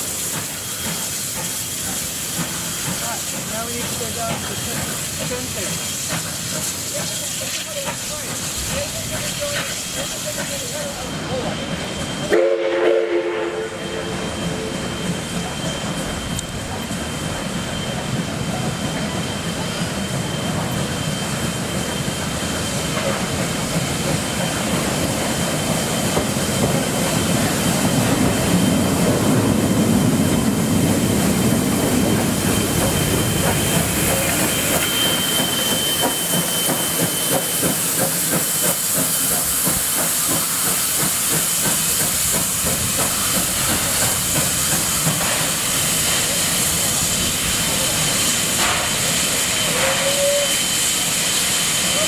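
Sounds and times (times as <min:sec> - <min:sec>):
steam hissing: 0:00.0 - 0:52.0
steam locomotive rumbling: 0:00.0 - 0:52.0.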